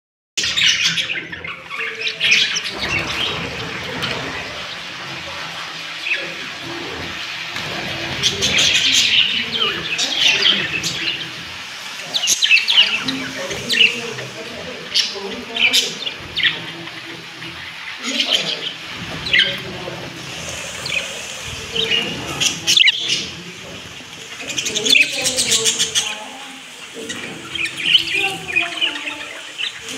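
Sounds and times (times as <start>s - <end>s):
budgerigars chirping: 0.4s - 29.9s.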